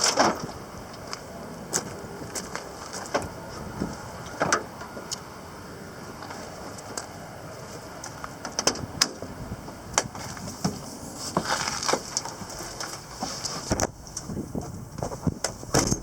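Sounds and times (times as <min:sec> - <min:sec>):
steady background hiss: 0:00.0 - 0:15.9.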